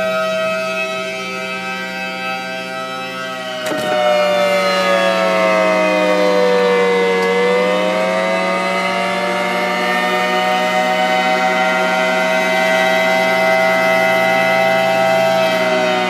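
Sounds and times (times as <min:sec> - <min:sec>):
rotating warning siren: 0:00.0 - 0:16.0.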